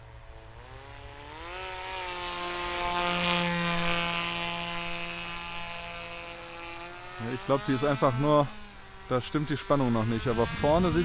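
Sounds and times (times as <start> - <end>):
electric propeller motor whine: 0.0 - 11.0.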